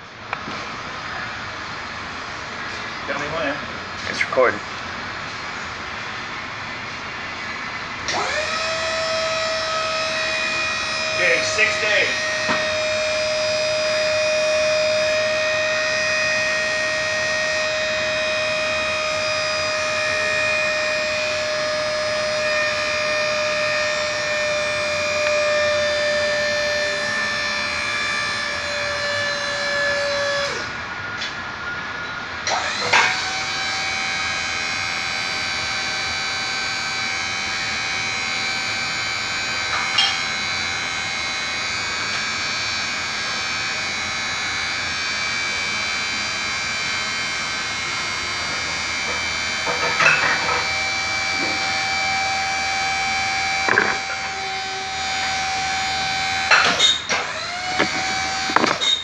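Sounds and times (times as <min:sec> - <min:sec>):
hydraulic power unit running: 0:00.0 - 0:31.6, 0:32.2 - 0:59.0
high whine: 0:00.0 - 0:59.0.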